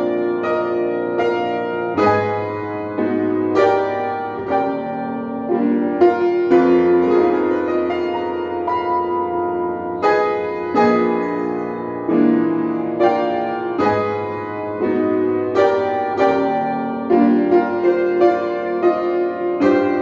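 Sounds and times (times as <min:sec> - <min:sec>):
slow jazz piano ballad: 0:00.0 - 0:20.0.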